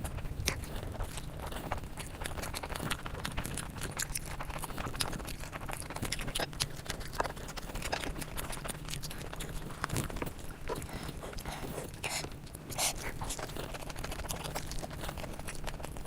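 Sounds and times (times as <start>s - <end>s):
low steady hum: 0.0s - 16.0s
wet chewing and mouth smacking: 0.0s - 16.0s.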